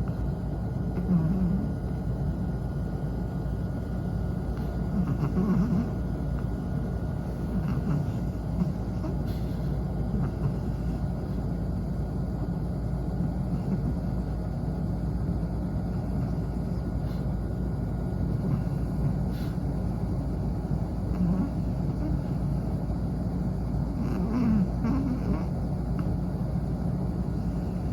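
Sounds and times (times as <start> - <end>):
dog snoring: 0.0 - 2.0, 4.4 - 27.9.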